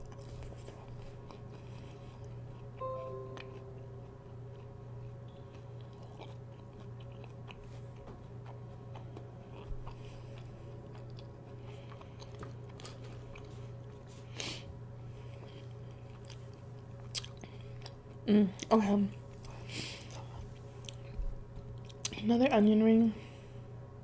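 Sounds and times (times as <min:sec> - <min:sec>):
chewing with soft crunches: 0:00.0 - 0:22.3
steady low hum: 0:00.0 - 0:24.0.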